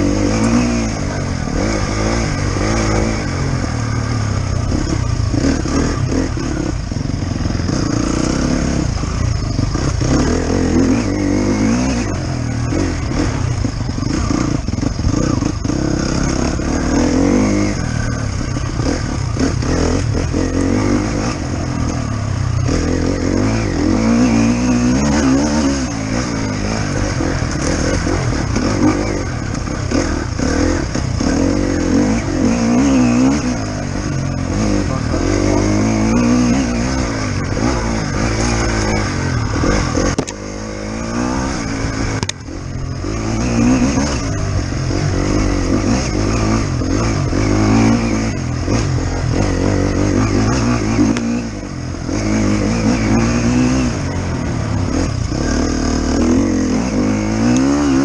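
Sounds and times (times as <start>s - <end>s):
motorcycle clattering over bumps: 0.0s - 58.0s
motorcycle engine revving: 0.0s - 58.0s.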